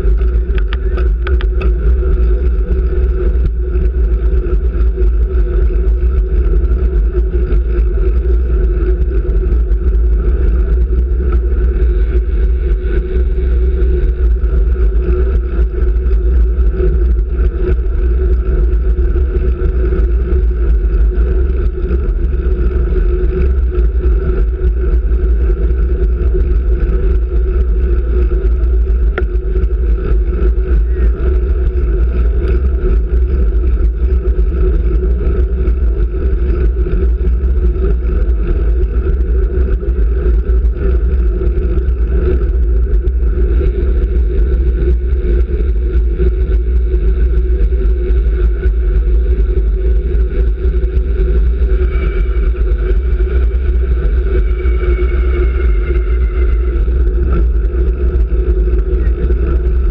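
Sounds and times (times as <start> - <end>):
bicycle road noise rumble: 0.0 - 59.9
wind noise: 0.0 - 59.9.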